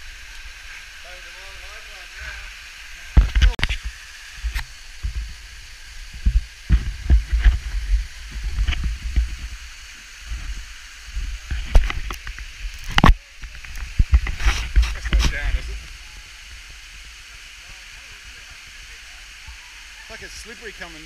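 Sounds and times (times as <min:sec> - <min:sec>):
waterfall splashing: 0:00.0 - 0:21.0.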